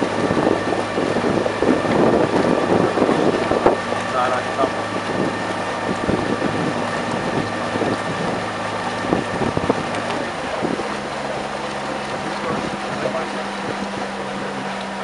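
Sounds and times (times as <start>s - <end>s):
motor hum: 0.0s - 15.0s
wind buffeting microphone: 0.0s - 15.0s.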